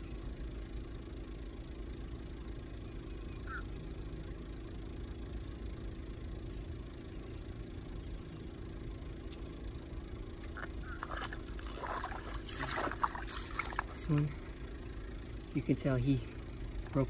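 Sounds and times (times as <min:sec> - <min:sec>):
faint hum: 0:00.0 - 0:17.0
low background rumble: 0:00.0 - 0:17.0.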